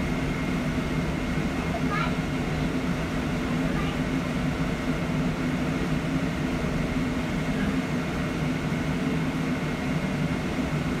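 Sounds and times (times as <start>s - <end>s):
electric bus cabin hum: 0.0s - 11.0s.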